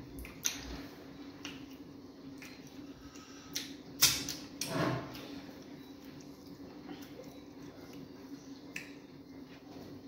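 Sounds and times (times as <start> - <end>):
mouth smacks and chewing: 0.0 - 10.0.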